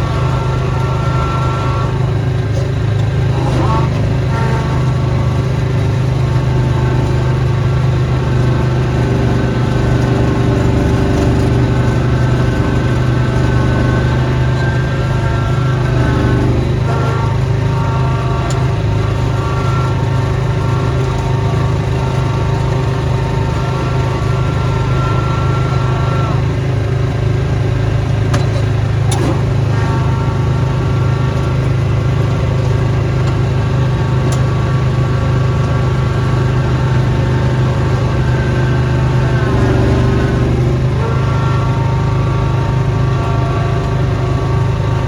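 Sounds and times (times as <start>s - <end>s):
high mechanical whine: 0.0s - 45.0s
small gasoline engine running: 0.0s - 45.0s.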